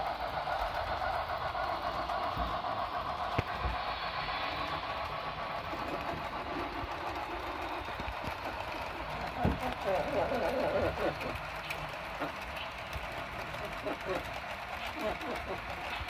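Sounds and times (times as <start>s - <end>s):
model train wheels rumbling on rails: 0.0s - 16.0s.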